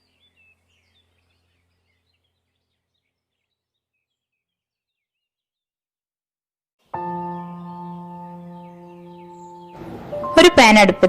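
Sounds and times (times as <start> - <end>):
faint birds chirping: 0.0 - 5.9, 6.8 - 11.0.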